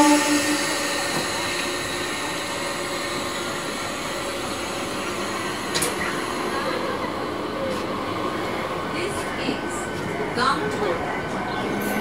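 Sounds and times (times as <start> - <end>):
electric train hum and whine: 0.0 - 12.0
train rolling noise: 0.0 - 12.0.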